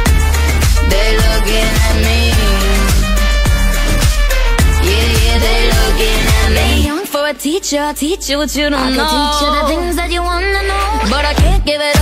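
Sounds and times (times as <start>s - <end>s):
pop song with heavy bass: 0.0s - 12.0s.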